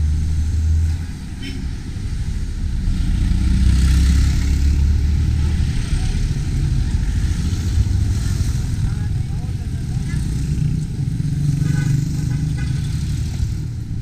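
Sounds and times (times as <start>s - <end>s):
vehicle and road noise: 0.0s - 14.0s.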